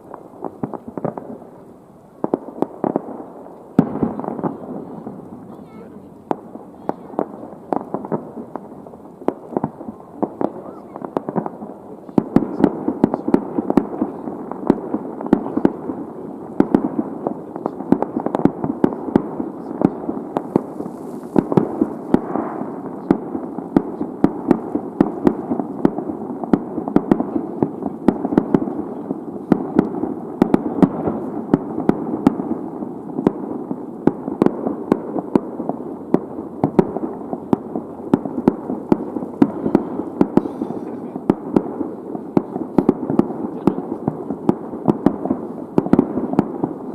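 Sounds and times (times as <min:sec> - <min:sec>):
fireworks barrage: 0:00.0 - 0:46.9.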